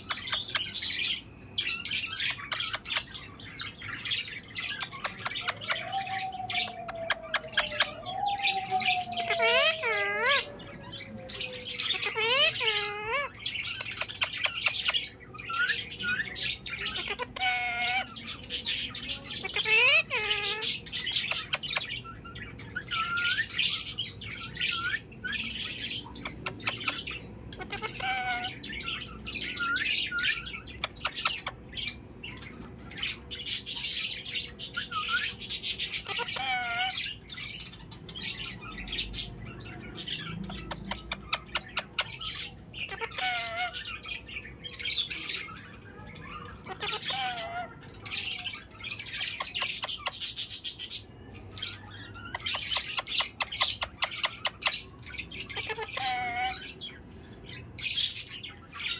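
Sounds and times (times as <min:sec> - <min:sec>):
parakeet chattering: 0:00.0 - 0:06.2, 0:06.8 - 0:10.6, 0:11.8 - 0:58.9
parakeet warbled call: 0:00.0 - 0:57.0.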